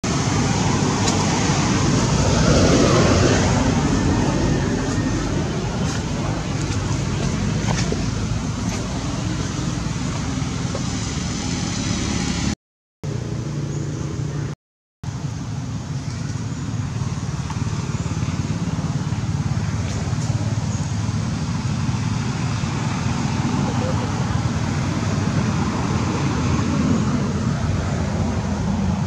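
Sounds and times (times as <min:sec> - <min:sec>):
low engine rumble: 0:00.0 - 0:29.0.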